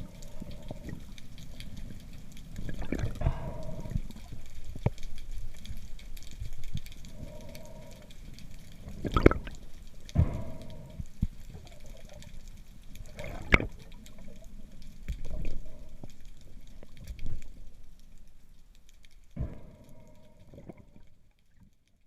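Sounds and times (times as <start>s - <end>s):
water sloshing and gurgling: 0.0s - 18.0s, 19.3s - 22.0s.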